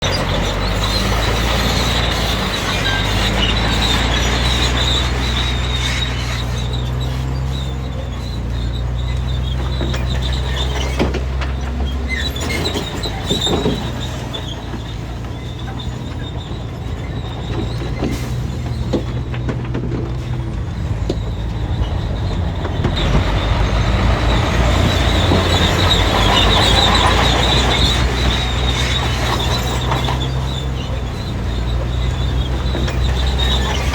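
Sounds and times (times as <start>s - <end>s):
bulldozer diesel engine running: 0.0s - 33.9s
steel tracks squealing and clanking: 0.0s - 33.9s.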